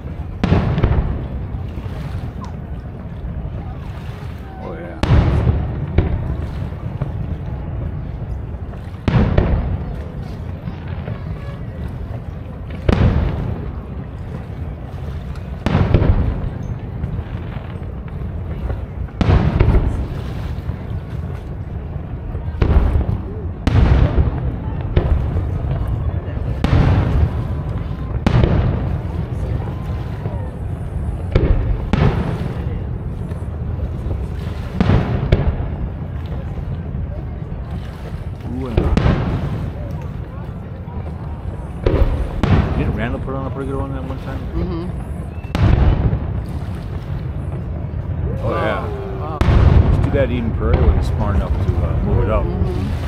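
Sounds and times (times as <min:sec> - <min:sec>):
fireworks booming: 0:00.0 - 0:53.0
steady low rumble: 0:00.0 - 0:53.0.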